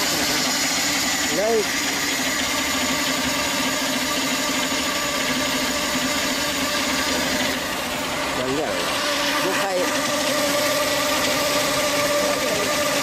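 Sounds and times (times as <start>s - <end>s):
chainsaw sawing through log: 0.0s - 13.0s.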